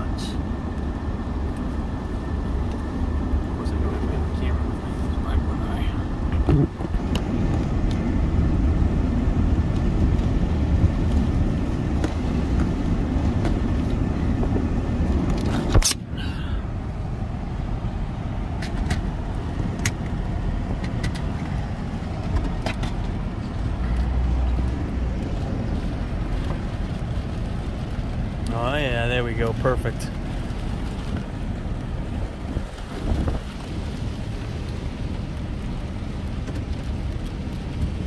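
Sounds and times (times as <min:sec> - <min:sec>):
cars driving past: 0:00.0 - 0:38.0.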